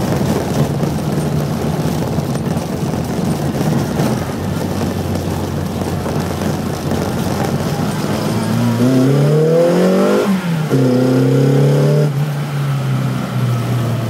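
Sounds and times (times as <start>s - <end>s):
car engine running rough: 0.0s - 14.0s.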